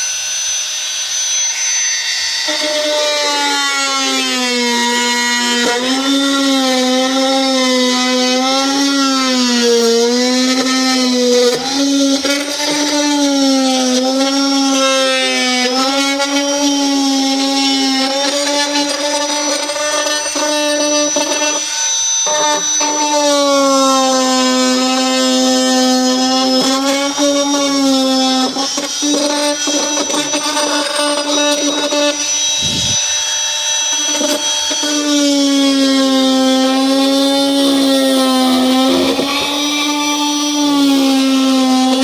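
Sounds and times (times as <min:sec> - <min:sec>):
high-speed power tool whine: 0:00.0 - 0:42.0.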